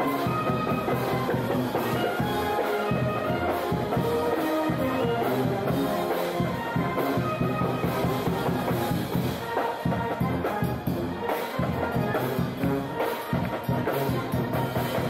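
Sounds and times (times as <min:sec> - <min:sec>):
drums and brass music: 0:00.0 - 0:15.0.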